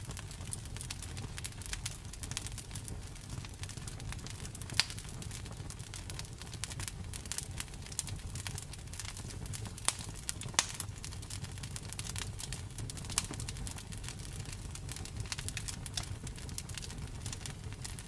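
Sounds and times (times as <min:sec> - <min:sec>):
low rumble of flames: 0:00.0 - 0:18.0
sharp pops of fire: 0:00.0 - 0:18.0
wood fire crackling: 0:00.0 - 0:18.0.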